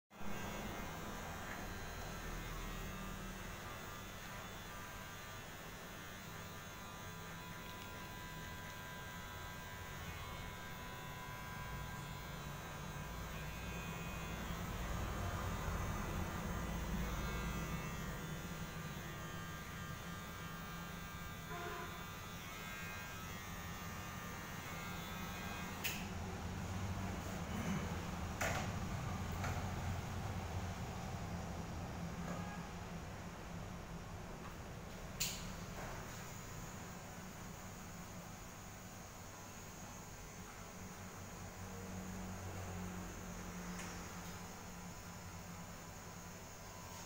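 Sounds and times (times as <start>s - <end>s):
low electric hum: 0.2s - 47.0s.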